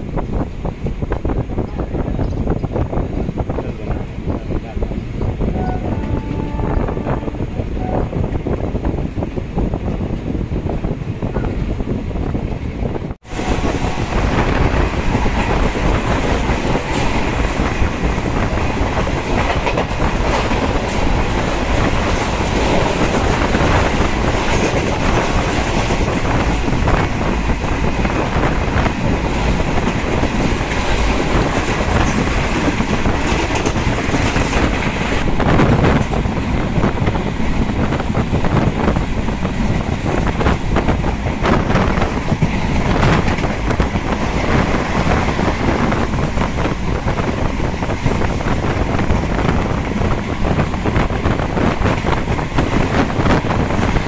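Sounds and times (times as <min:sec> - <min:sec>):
train rumbling at speed: 0:00.0 - 0:54.0.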